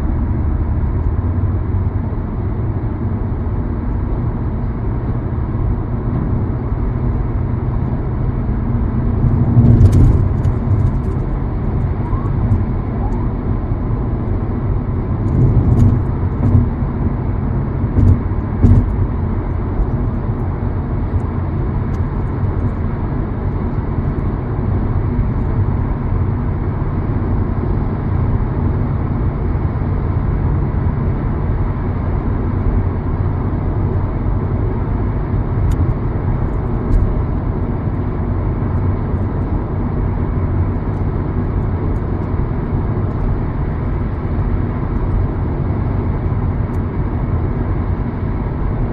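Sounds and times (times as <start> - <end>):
vehicle engine rumbling: 0.0 - 48.9.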